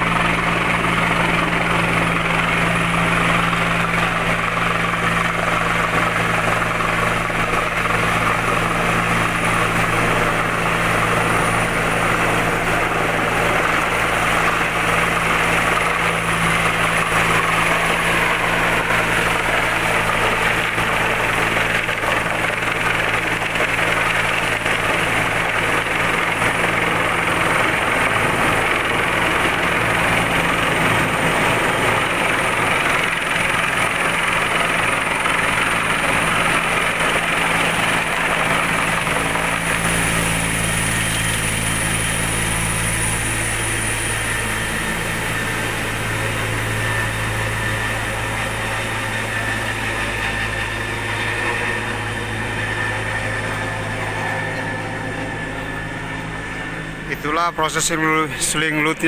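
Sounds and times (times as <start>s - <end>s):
helicopter rotor hum: 0.0s - 59.0s
high turbine whine: 0.0s - 59.0s.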